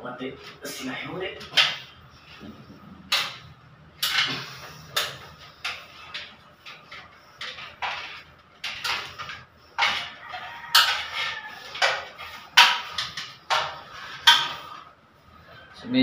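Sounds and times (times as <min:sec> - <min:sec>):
wires scraping through conduit: 0:00.4 - 0:15.8.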